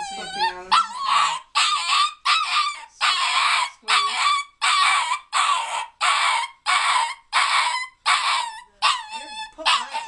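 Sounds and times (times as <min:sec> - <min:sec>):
puppy crying: 0:00.0 - 0:10.0.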